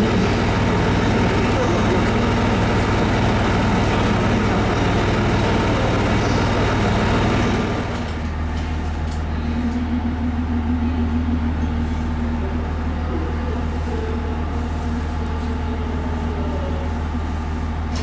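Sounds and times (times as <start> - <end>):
railcar diesel engine idling: 0.0 - 18.0.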